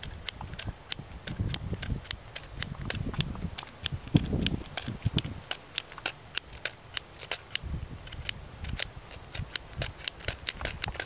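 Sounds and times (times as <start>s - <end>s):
handheld gadget clicking: 0.0s - 11.0s.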